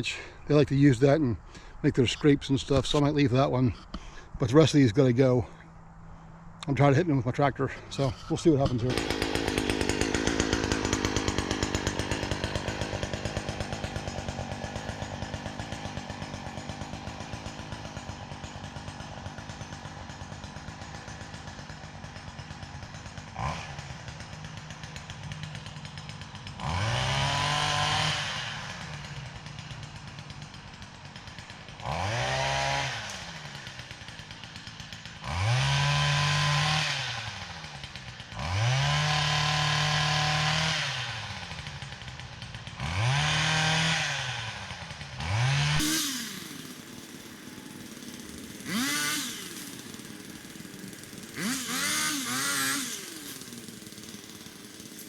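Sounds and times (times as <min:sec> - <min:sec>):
pole saw engine revving: 0:08.0 - 0:55.0.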